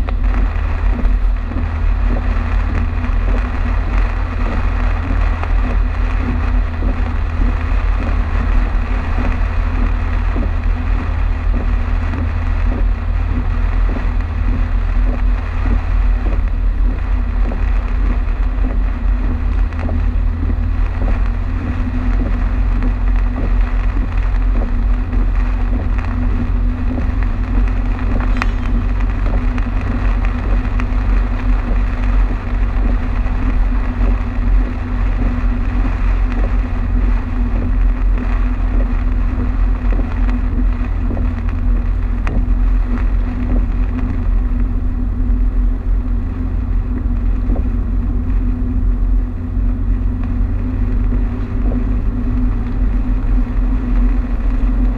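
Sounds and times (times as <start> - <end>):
constant hum: 0.0 - 54.9
road and engine rumble: 0.0 - 54.9
tyres and rain hissing: 0.0 - 54.9.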